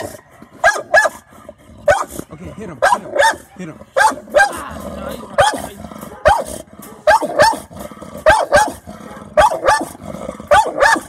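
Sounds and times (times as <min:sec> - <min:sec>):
dog barking: 0:00.0 - 0:02.2, 0:02.8 - 0:04.7, 0:05.4 - 0:11.0.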